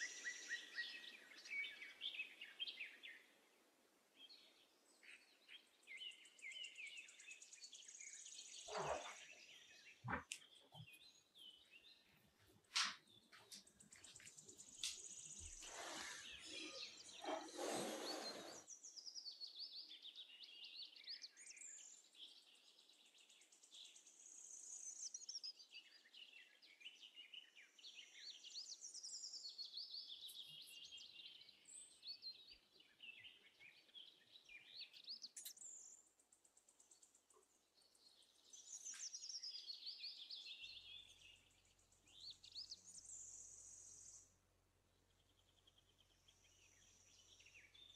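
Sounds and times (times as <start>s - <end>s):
birds chirping and trilling: 0.0s - 3.6s, 4.2s - 24.2s, 25.0s - 47.9s.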